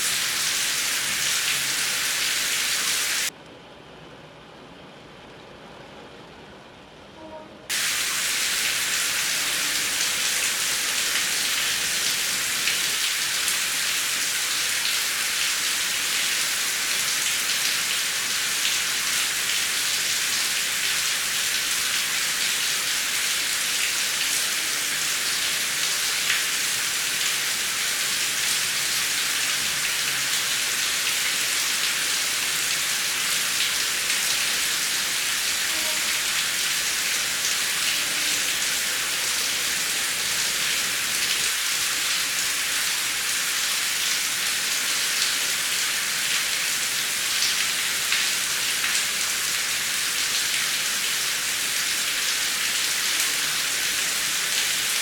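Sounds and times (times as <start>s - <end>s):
heavy rain falling: 0.0s - 3.3s, 7.7s - 55.0s.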